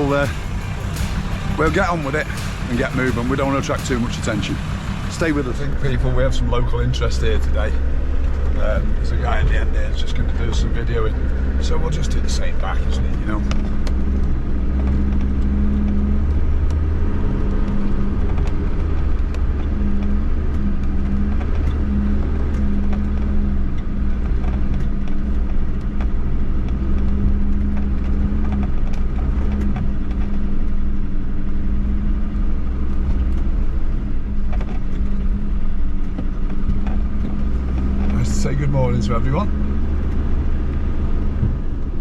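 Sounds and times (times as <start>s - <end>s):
engine rumbling at low speed: 0.0s - 42.0s.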